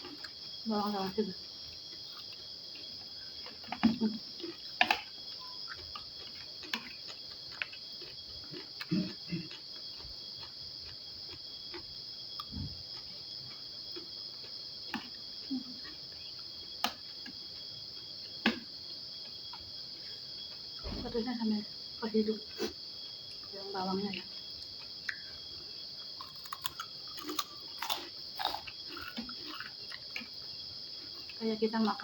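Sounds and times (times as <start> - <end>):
soft chewing: 0.0 - 20.8, 22.5 - 31.4.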